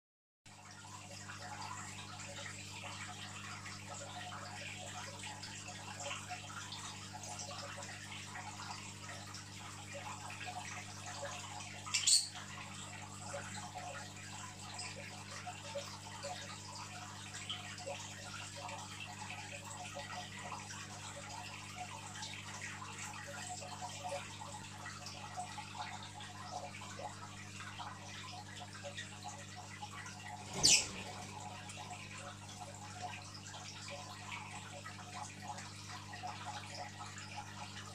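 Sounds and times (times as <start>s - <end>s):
aquarium water bubbling: 0.5s - 37.9s.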